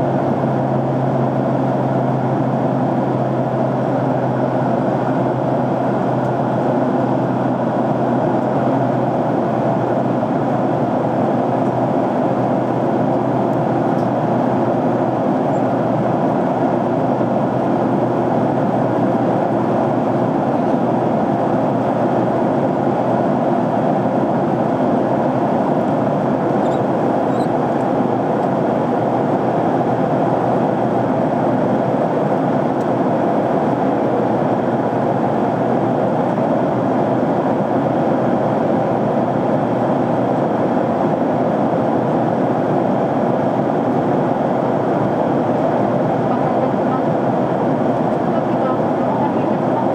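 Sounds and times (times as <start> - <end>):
jet airliner cabin noise: 0.0 - 49.9.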